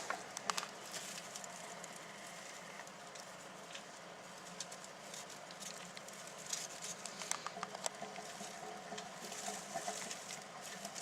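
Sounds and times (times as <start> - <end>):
low steady hum: 0.0 - 11.0
mice ticking and scratching: 0.0 - 11.0.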